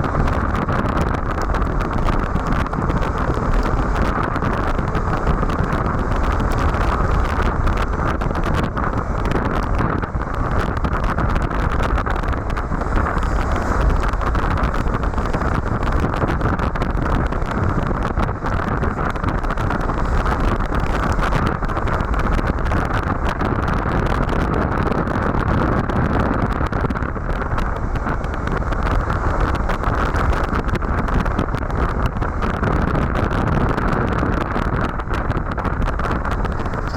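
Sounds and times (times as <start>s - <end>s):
motorcycle riding at road speed: 0.0s - 36.9s
wind on microphone: 0.0s - 36.9s.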